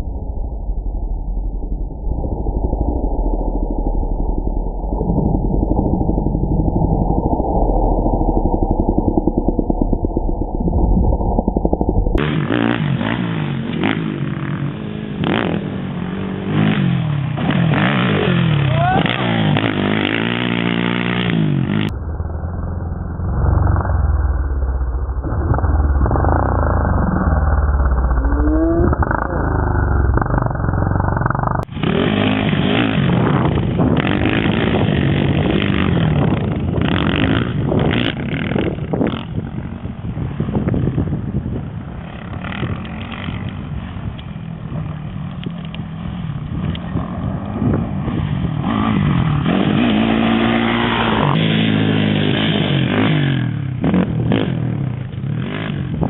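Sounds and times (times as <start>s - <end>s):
quad bike engine revving: 8.3s - 21.9s, 23.3s - 56.0s.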